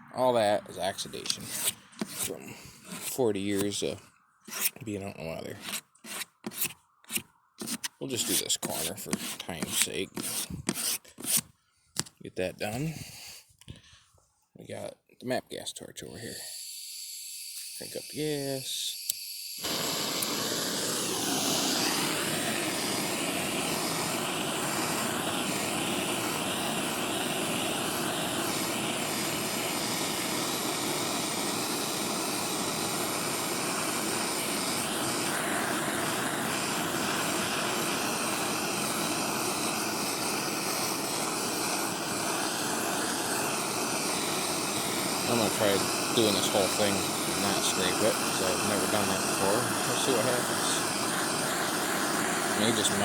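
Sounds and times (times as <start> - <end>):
gas torch hissing: 0.2 - 11.4, 12.7 - 13.5, 16.1 - 53.0.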